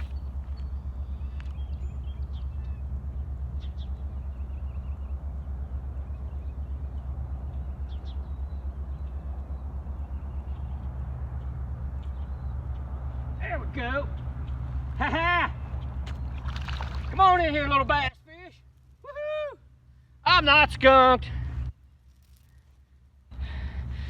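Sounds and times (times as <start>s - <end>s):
low pulsing mechanical hum: 0.0s - 24.0s.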